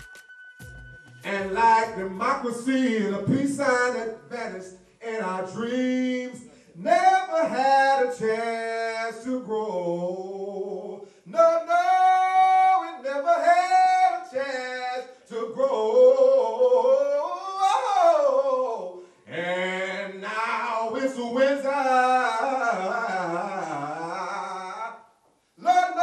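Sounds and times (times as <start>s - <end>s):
man singing solo: 1.2s - 26.0s.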